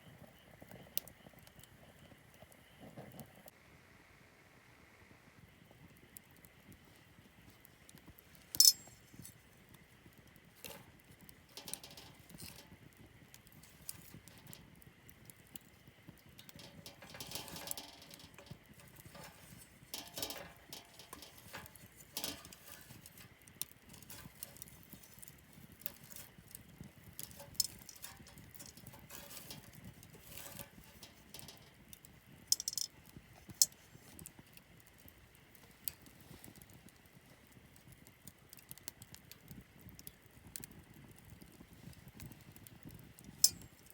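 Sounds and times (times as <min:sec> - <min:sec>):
campfire crackling: 0:00.0 - 0:03.5, 0:05.4 - 0:43.9.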